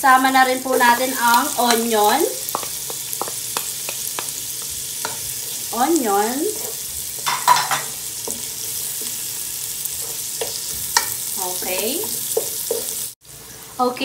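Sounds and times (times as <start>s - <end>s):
onion and garlic sizzling in oil: 0.0s - 14.0s
wooden spatula scraping a pan: 1.7s - 13.1s.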